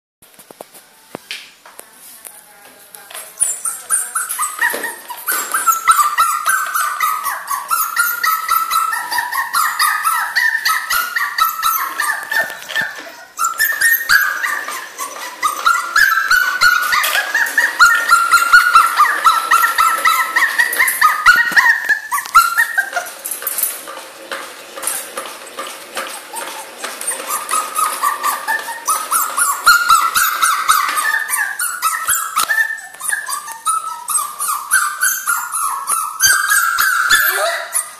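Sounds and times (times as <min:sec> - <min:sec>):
puppy whining and crying: 0:03.4 - 0:23.7, 0:24.8 - 0:37.9.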